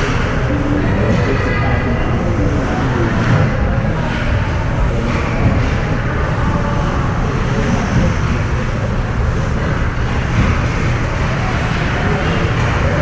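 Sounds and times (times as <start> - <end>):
ice rink rumbling ambience: 0.0 - 13.0.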